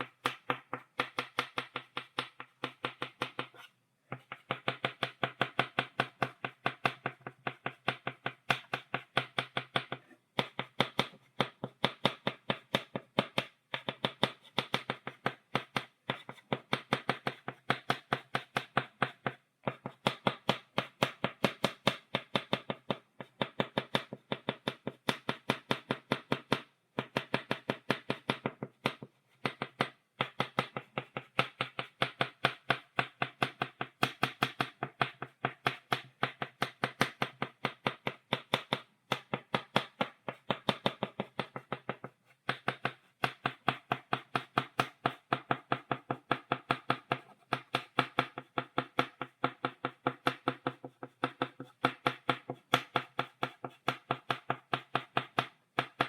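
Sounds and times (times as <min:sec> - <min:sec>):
chalk tapping on blackboard: 0:00.0 - 0:56.0.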